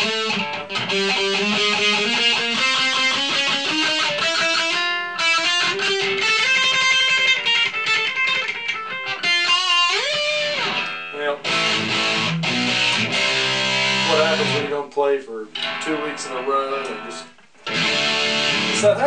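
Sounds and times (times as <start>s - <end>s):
electric guitar notes: 0.0s - 14.8s, 15.5s - 19.0s.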